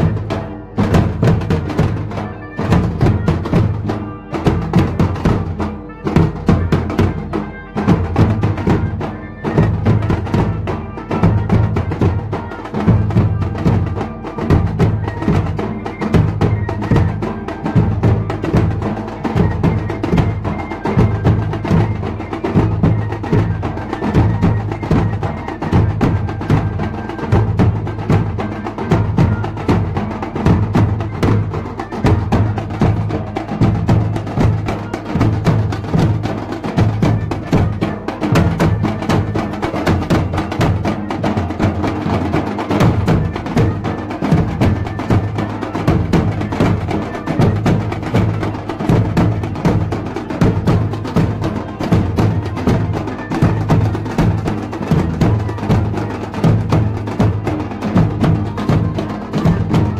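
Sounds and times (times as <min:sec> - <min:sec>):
drums beating: 0:00.0 - 0:59.9.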